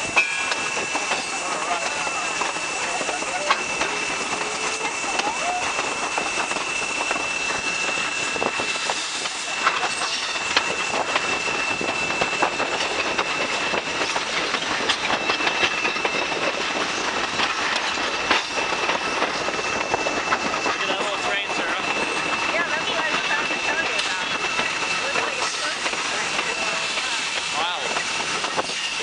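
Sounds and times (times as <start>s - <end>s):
wheels clicking over rail joints: 0.0s - 7.6s, 8.4s - 29.0s
train cars rattling: 0.0s - 29.0s.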